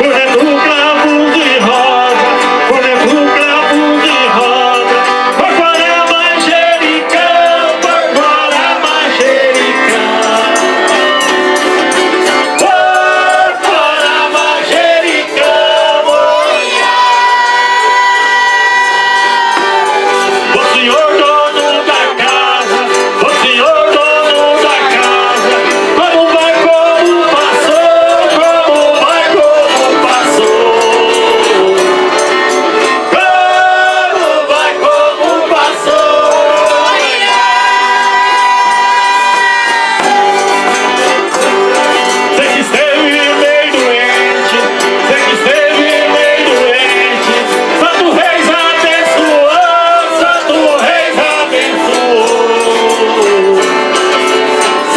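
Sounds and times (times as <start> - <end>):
button accordion playing: 0.0 - 54.9
several voices singing: 0.0 - 54.9
shaken percussion rattling: 0.0 - 54.9.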